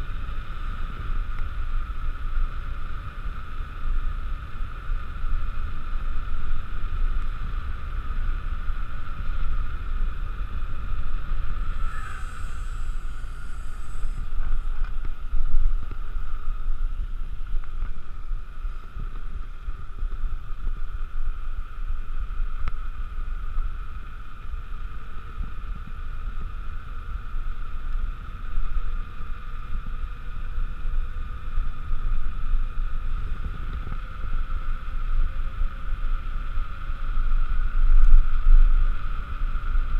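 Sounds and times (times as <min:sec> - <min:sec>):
bike tyres rolling on asphalt: 0:00.0 - 0:39.9
steady high hum: 0:00.0 - 0:39.9
wind buffeting microphone: 0:00.0 - 0:39.9.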